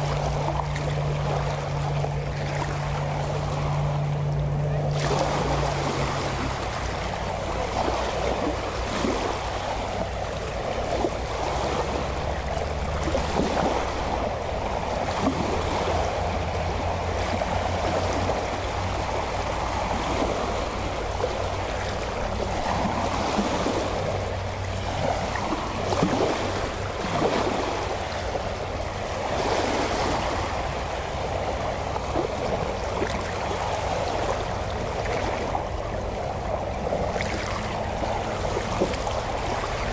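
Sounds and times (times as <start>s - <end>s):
low steady hum: 0.0s - 39.9s
small waves lapping: 0.0s - 39.9s.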